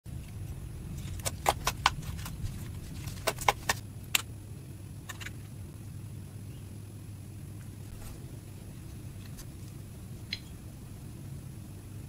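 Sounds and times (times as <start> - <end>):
low steady hum: 0.1 - 12.0.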